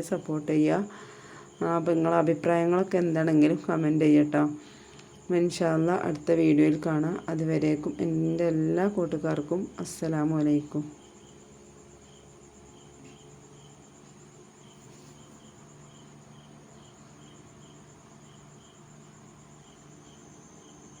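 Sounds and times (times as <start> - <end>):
faint low hum: 0.0 - 21.0
insects trilling: 0.0 - 21.0
soft insect chirp: 0.0 - 21.0.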